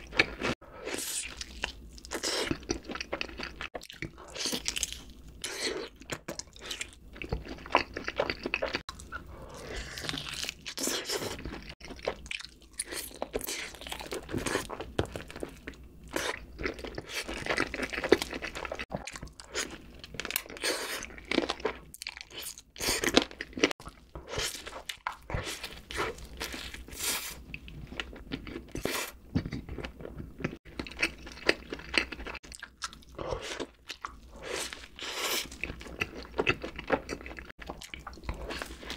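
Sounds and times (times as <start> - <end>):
crunchy chewing and biting: 0.0 - 38.9.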